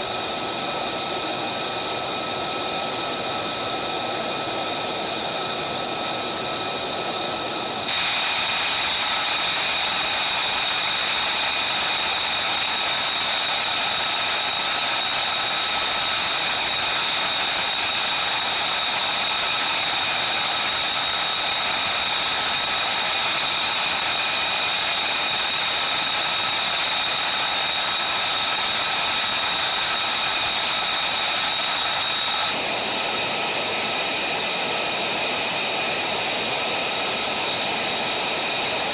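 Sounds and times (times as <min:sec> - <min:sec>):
jet engine turbine whine: 0:00.0 - 0:38.9.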